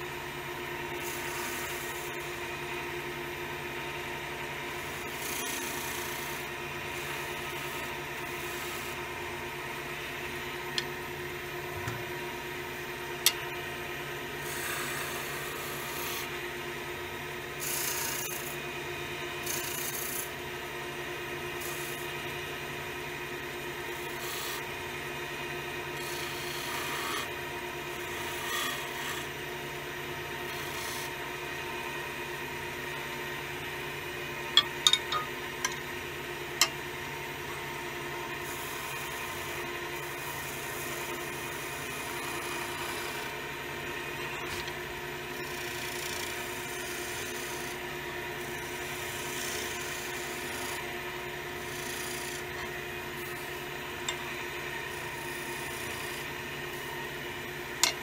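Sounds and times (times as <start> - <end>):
wood lathe humming: 0.0 - 58.0.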